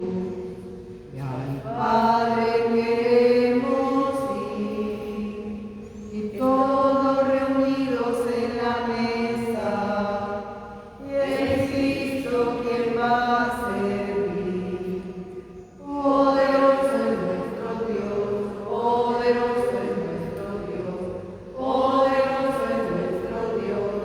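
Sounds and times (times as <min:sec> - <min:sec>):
voices singing a slow hymn: 0:00.0 - 0:24.0.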